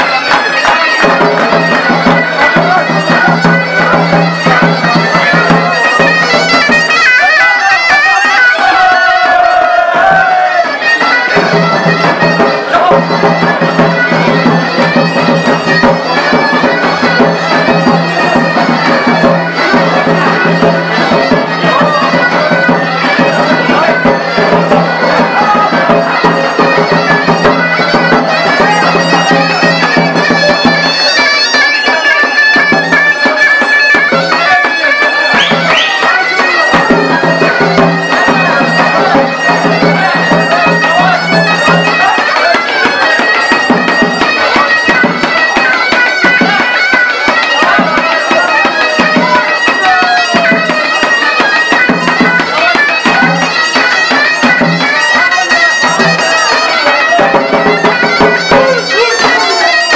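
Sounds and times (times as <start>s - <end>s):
loud reedy zurna: 0.0s - 59.9s.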